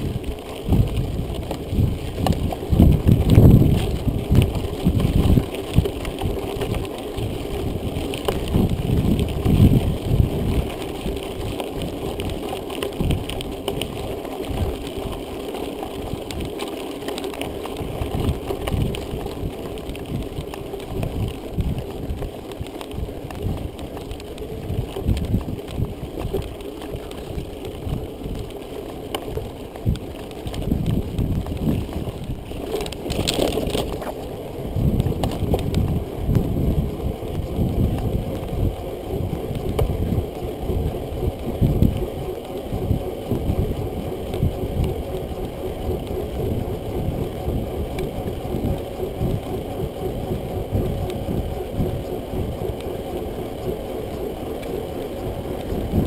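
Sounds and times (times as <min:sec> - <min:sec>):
mountain bike riding over trail: 0:00.0 - 0:56.0
wind buffeting microphone: 0:00.0 - 0:56.0.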